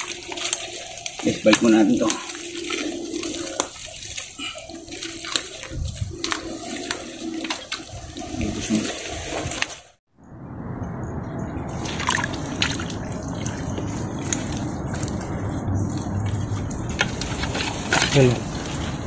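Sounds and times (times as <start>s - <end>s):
wet mud squelching and sloshing: 0.0s - 10.0s, 11.6s - 19.0s.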